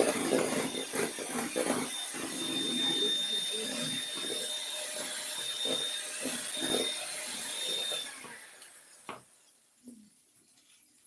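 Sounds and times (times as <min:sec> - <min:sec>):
electric hand mixer whining: 0:00.0 - 0:09.3.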